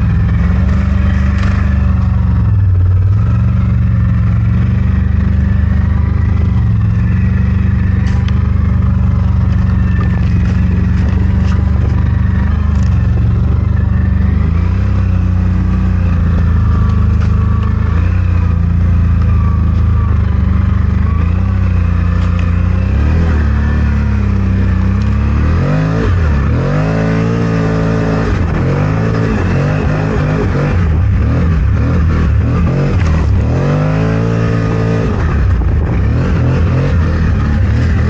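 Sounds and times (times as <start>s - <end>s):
engine revving under load: 0.0s - 38.0s.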